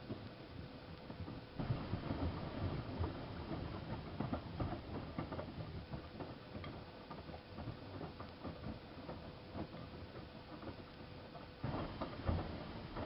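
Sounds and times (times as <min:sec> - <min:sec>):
faint steady hum: 0:00.0 - 0:13.0
laundry tumbling and sloshing: 0:01.1 - 0:13.0
soft knocks in washing drum: 0:01.1 - 0:13.0.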